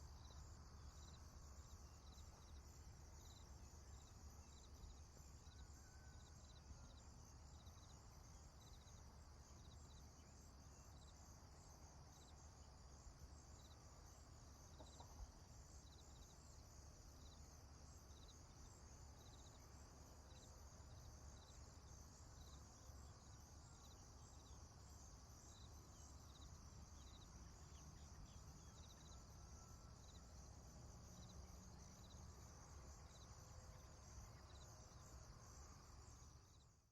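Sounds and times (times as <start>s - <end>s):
high-pitched insect chorus: 0.0s - 36.9s
repeating insect chirp: 0.0s - 36.9s.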